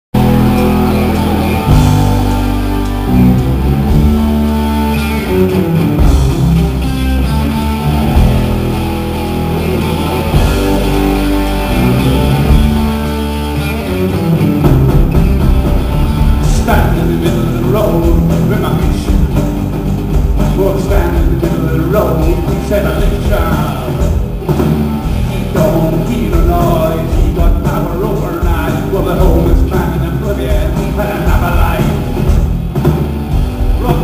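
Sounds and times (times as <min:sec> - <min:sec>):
bass guitar: 0:00.1 - 0:34.0
drum kit: 0:00.1 - 0:34.0
electric guitar: 0:00.2 - 0:34.0.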